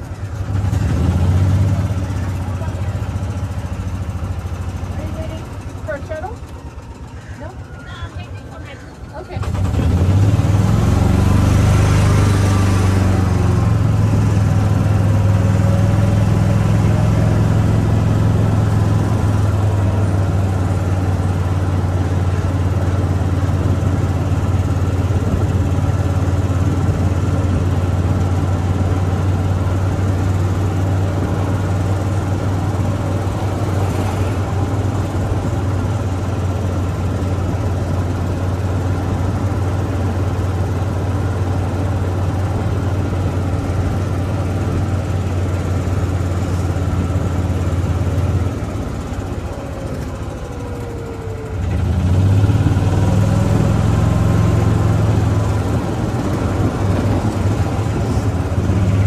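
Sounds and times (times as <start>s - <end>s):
vehicle engine humming: 0.0s - 59.0s.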